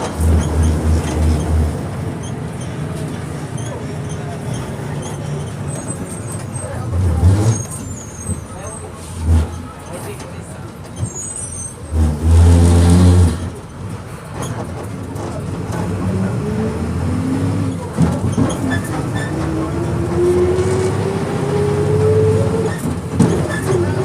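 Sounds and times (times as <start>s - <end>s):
bus engine accelerating: 0.0s - 24.0s.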